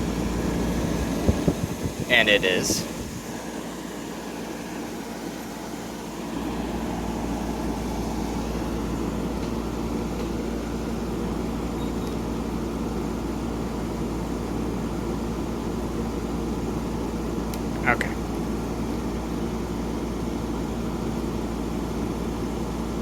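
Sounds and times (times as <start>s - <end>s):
air conditioner running: 0.0s - 23.0s.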